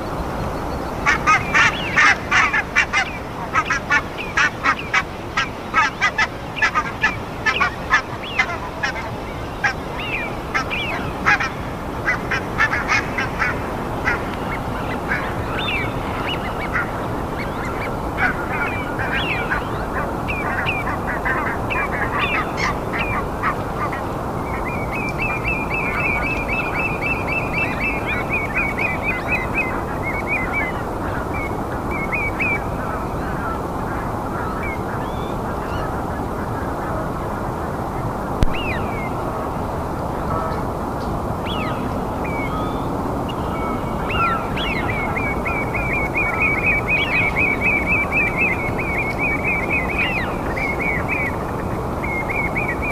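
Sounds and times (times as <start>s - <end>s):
wild birds calling: 0.0s - 52.9s.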